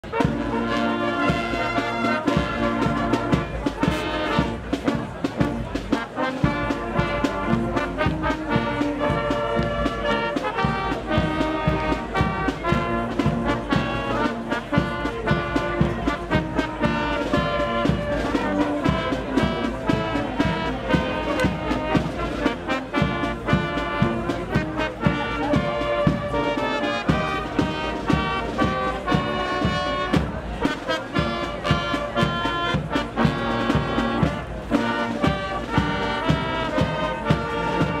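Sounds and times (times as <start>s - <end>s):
brass band playing: 0.0s - 38.0s.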